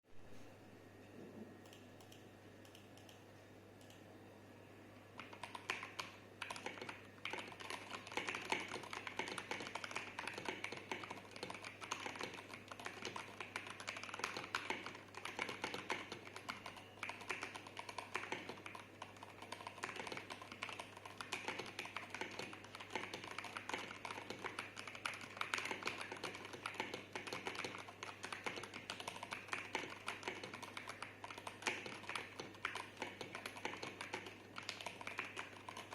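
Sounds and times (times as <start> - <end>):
typing on mechanical keyboard: 5.2 - 35.9.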